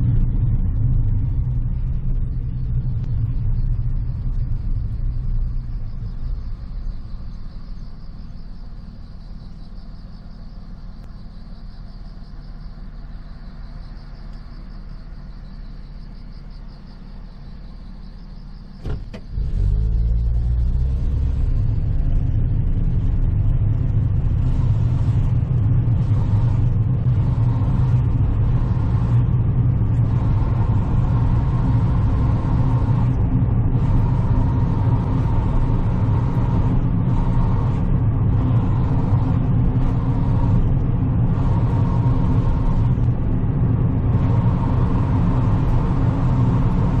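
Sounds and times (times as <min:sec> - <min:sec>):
car engine: 0:00.0 - 0:47.0.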